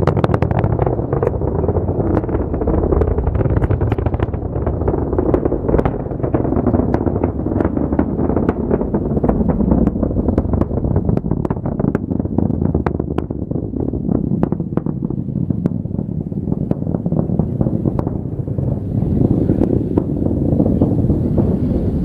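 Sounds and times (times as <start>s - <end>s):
rocket engines rumbling and crackling: 0.0s - 22.0s.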